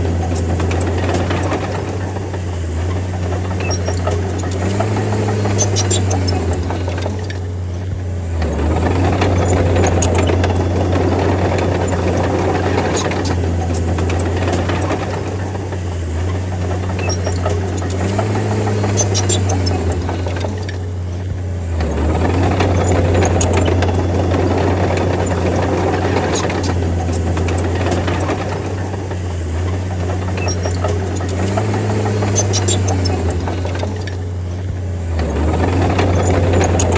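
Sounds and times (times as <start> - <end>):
bulldozer diesel engine running: 0.0 - 36.9
metallic clicks and clanks: 0.0 - 36.9.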